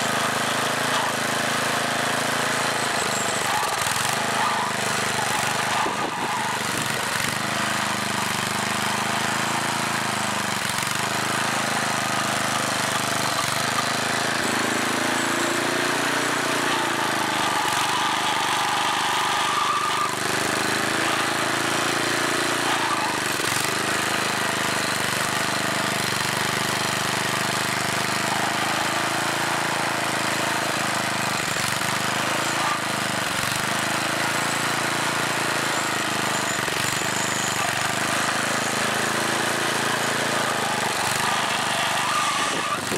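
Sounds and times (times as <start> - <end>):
rototiller engine running: 0.0 - 42.9
tines digging into ground: 0.0 - 42.9.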